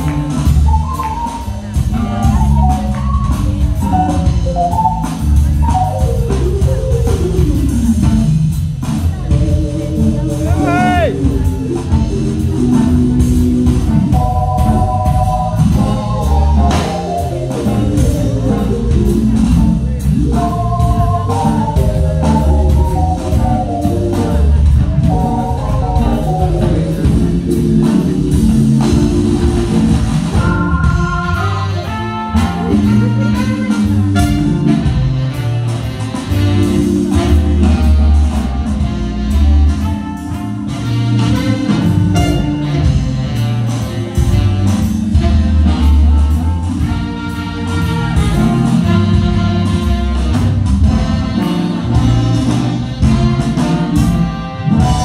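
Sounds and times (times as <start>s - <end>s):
deep bass line: 0.0s - 55.0s
keyboard: 0.0s - 55.0s
trumpet melody: 0.0s - 55.0s.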